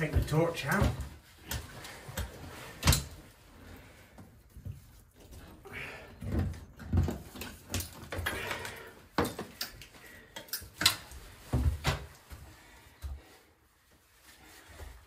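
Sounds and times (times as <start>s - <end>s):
rubble and tools clattering: 0.0s - 13.5s.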